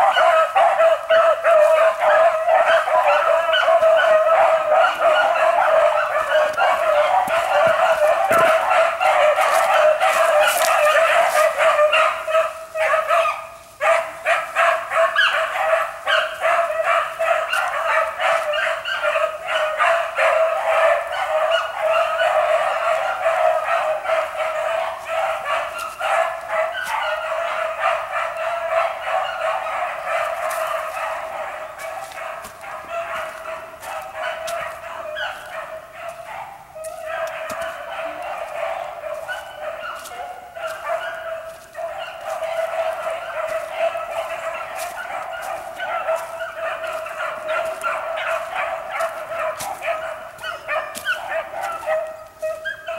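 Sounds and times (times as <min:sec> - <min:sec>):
hounds baying and yipping: 0:00.0 - 0:52.9.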